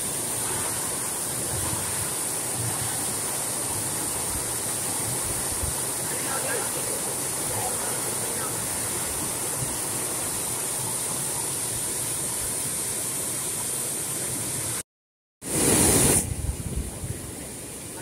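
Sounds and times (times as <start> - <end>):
water rushing over concrete spillway: 0.0 - 14.8, 15.5 - 18.0.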